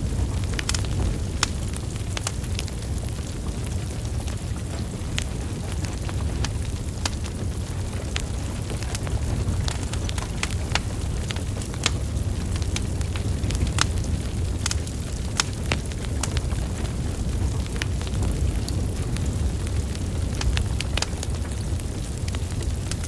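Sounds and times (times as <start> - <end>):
logs crackling and popping: 0.0 - 23.0
low rumble of flames: 0.0 - 23.0.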